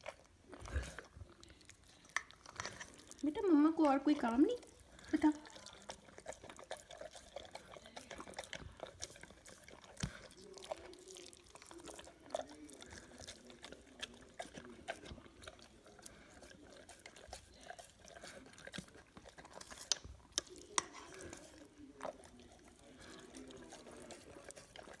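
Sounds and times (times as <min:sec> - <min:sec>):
dog chewing wet food: 0:00.0 - 0:25.0.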